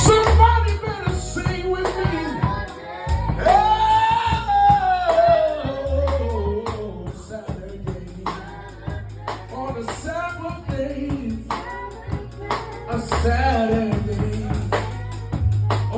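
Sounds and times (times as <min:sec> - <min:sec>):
bass line: 0:00.0 - 0:15.9.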